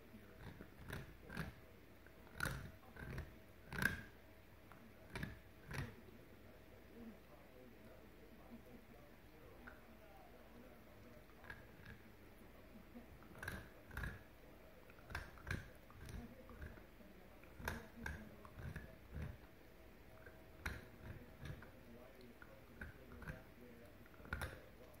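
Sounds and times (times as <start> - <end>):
dog gnawing a bone: 0.1 - 6.0, 9.5 - 25.0.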